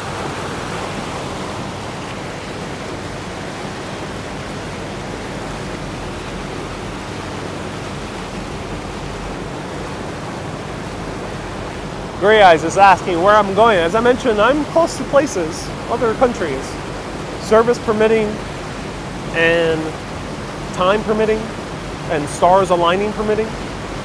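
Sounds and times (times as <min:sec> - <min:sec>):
boat rushing through water: 0:00.0 - 0:24.0.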